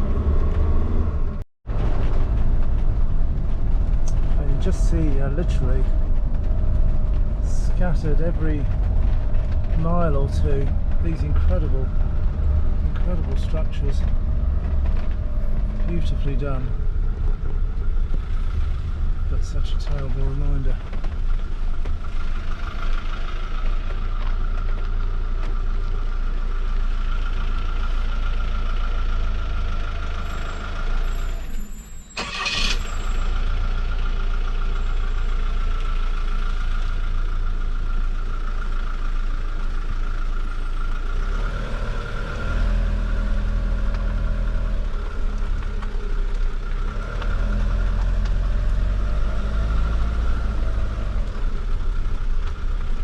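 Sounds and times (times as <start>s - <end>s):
motorhome engine and tyre noise: 0.0s - 53.0s.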